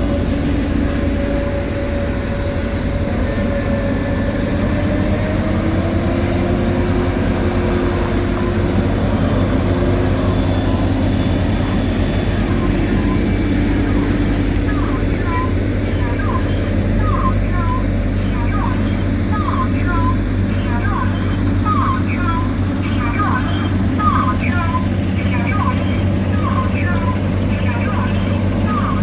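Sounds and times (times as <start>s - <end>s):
diesel machinery rumbling: 0.0s - 29.0s
machinery whine: 0.0s - 29.0s.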